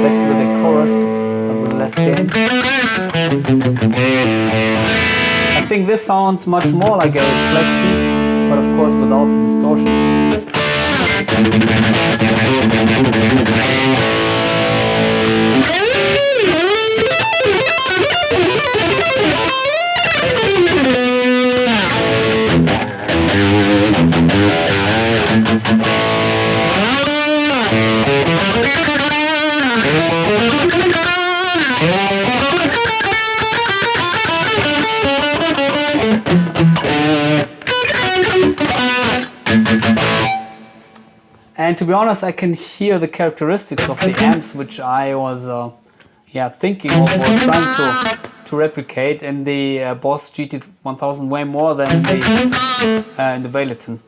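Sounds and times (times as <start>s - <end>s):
electric guitar with chorus: 0.0s - 5.8s, 6.6s - 41.5s, 43.8s - 44.7s, 46.8s - 48.6s, 51.8s - 53.4s.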